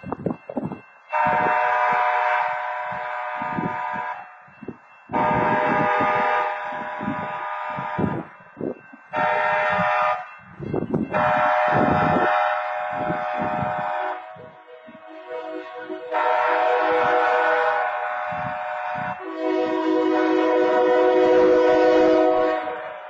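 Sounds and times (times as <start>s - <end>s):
train horn blasts: 1.1s - 4.3s, 5.1s - 8.4s, 9.1s - 10.4s, 11.1s - 23.0s.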